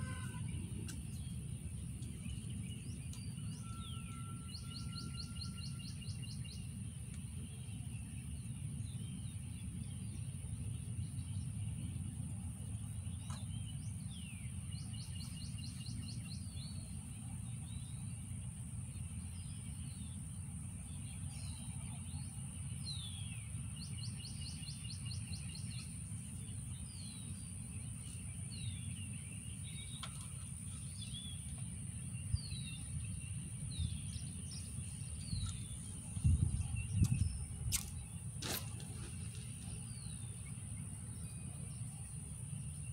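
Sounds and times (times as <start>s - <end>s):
birds chirping: 0.0s - 42.9s
steady low rumble: 0.0s - 42.9s.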